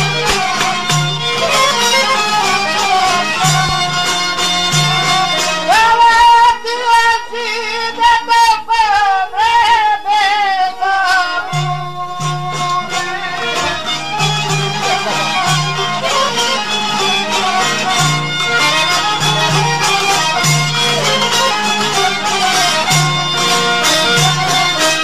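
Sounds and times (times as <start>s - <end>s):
percussion: 0.0s - 7.6s, 10.3s - 25.0s
ornamented folk lead melody: 0.0s - 25.0s.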